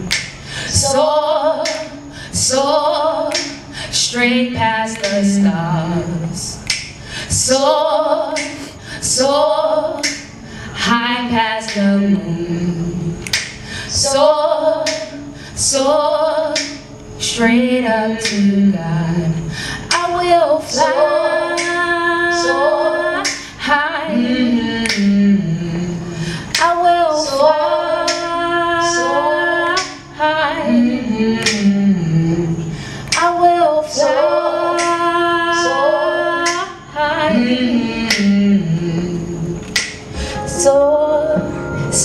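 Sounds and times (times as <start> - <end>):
musical backing: 0.0 - 42.0
woman singing: 0.0 - 42.0.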